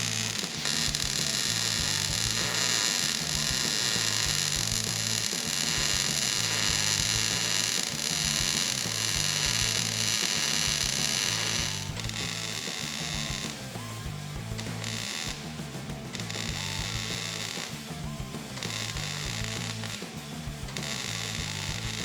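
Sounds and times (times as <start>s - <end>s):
background music with bass line: 0.0s - 22.0s
steady high hiss: 0.0s - 22.0s.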